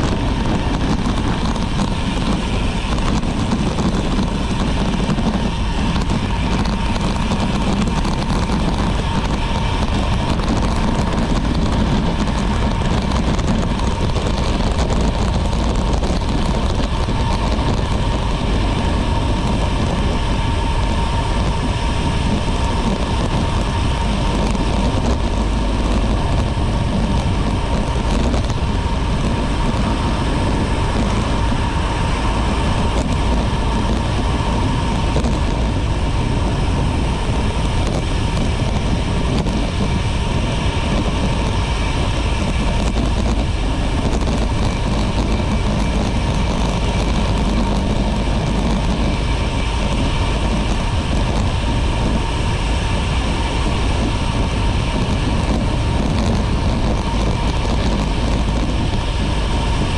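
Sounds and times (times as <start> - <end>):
bike road noise: 0.0 - 59.9
wind rush on microphone: 0.0 - 59.9.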